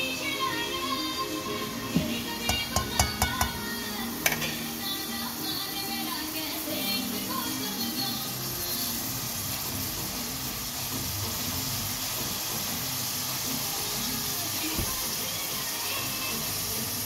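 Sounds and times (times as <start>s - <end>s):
food sizzling in pot: 0.0s - 17.0s
quiet background music: 0.0s - 17.0s.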